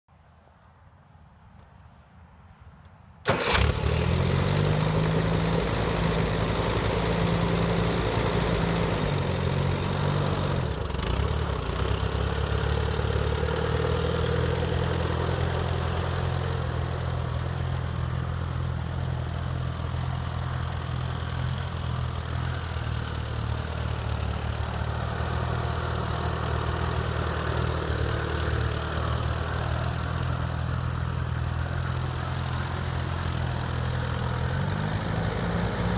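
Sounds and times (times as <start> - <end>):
tractor engine starting and running: 3.2 - 35.9.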